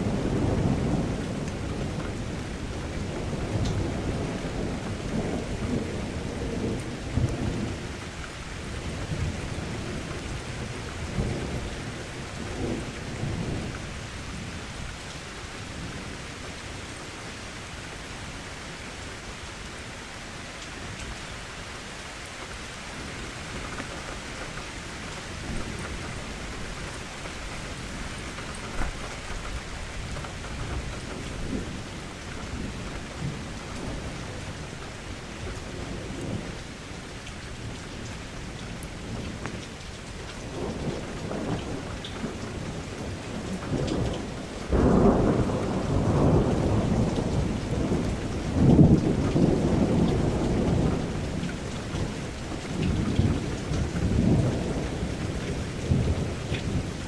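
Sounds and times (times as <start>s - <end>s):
thunder rumbling: 0.0s - 15.0s, 23.0s - 38.1s, 38.7s - 57.0s
steady rain: 0.0s - 57.0s.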